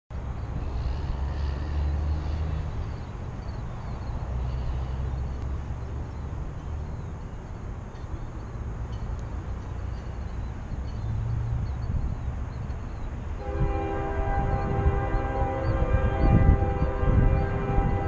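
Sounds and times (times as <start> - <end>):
low engine rumble: 0.1 - 18.0.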